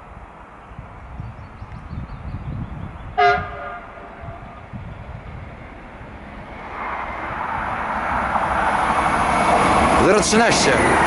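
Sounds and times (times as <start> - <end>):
electric train approaching: 0.0 - 11.0.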